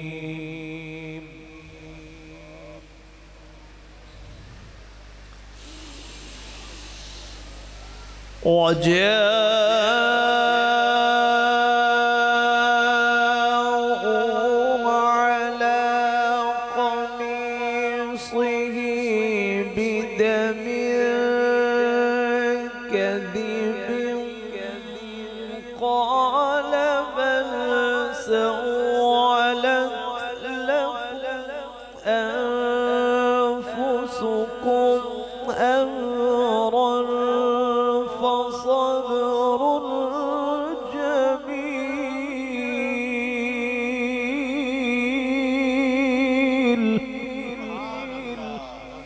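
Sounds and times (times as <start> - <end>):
man chanting melodically: 0.0 - 3.7, 7.7 - 49.0.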